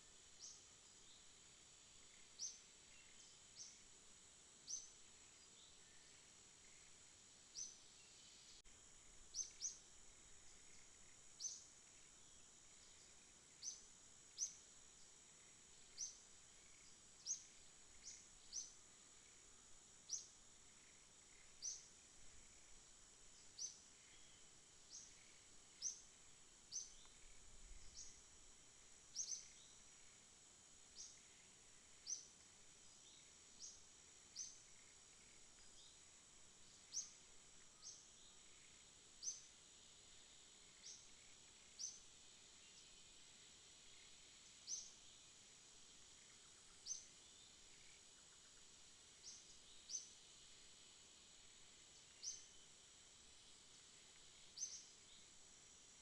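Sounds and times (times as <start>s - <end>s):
insect trill: 0.0s - 56.0s.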